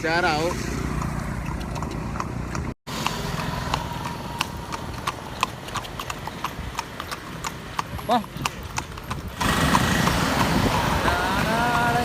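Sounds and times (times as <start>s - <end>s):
horse hooves clip-clopping: 0.8s - 12.0s
cart low rumble: 0.9s - 12.0s.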